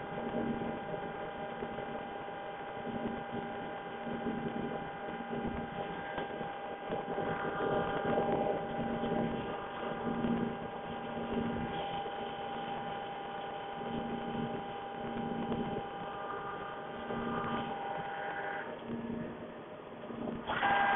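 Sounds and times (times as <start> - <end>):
cnc machine motor whine: 0.0 - 20.9.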